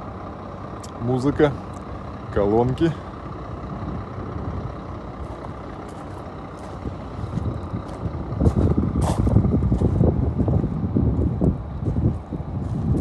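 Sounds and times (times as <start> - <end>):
all-terrain vehicle engine rumble: 0.0 - 13.0.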